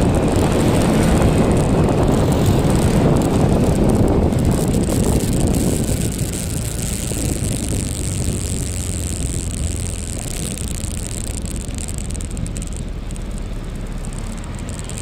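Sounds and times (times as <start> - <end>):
road and vehicle noise: 0.0 - 15.0
wind rushing over microphone: 0.0 - 15.0.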